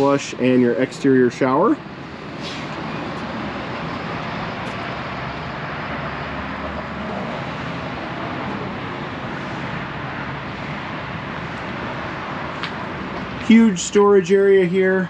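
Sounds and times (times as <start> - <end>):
outdoor background rumble and hiss: 0.0 - 15.0.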